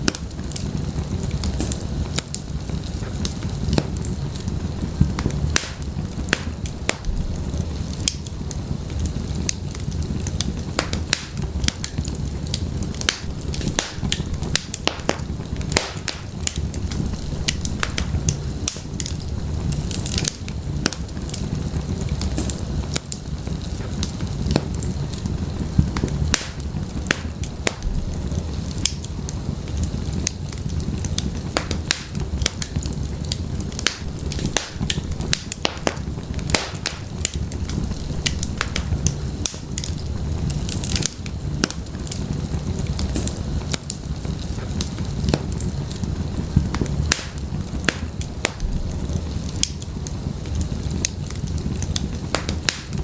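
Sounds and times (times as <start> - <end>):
firewood crackling and popping: 0.0 - 53.0
low rumble of flames: 0.0 - 53.0.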